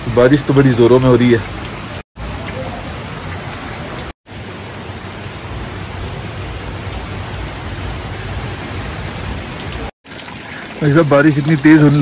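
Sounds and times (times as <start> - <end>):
heavy rain on street: 0.0 - 12.0.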